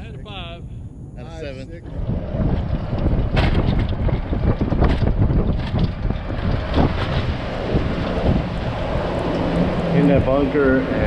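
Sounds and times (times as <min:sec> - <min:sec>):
wind buffeting microphone: 0:00.0 - 0:11.0
sharp rattles: 0:01.8 - 0:10.7
cart rolling rumble: 0:01.8 - 0:11.0.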